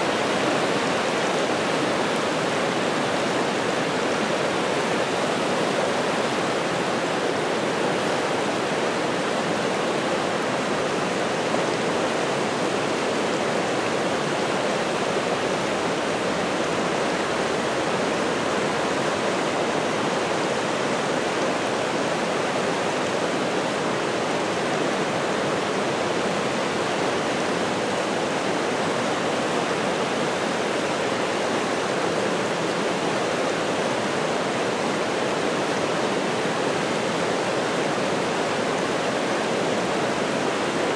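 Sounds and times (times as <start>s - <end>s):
brook rushing through rapids: 0.0s - 40.9s.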